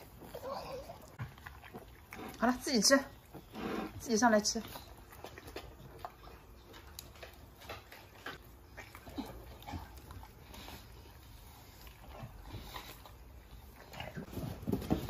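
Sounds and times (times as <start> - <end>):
dogs chewing and lapping: 0.0 - 15.0.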